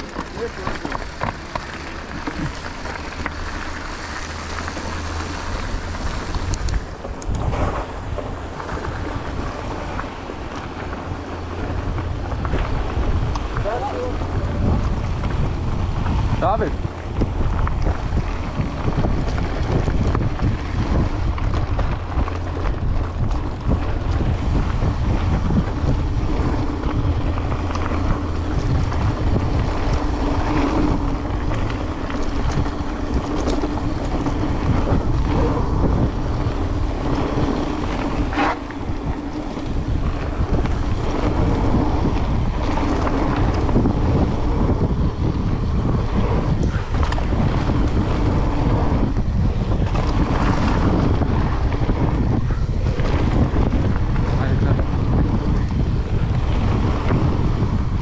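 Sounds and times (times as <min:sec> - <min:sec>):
bike rattles and clicks: 0:00.0 - 0:58.0
low rumble: 0:00.0 - 0:58.0
wind rushing over microphone: 0:00.0 - 0:58.0.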